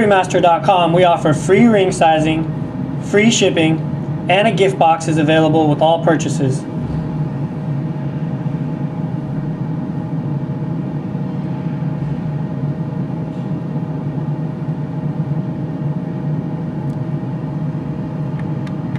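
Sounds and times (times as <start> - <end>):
faint constant whine: 0.0 - 18.9
low mechanical hum: 0.0 - 18.9.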